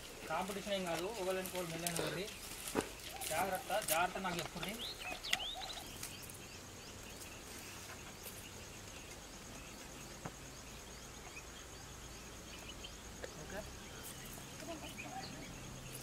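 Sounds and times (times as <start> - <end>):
insect trilling: 0.0 - 16.0
bird-like chirps: 1.9 - 16.0.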